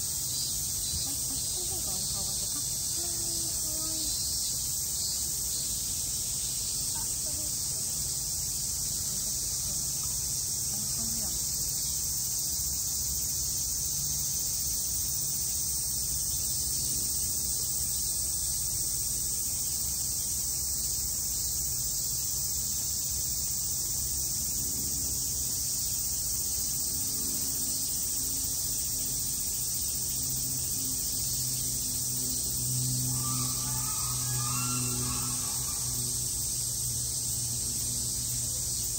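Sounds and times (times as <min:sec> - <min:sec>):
cicadas chorus: 0:00.0 - 0:38.9.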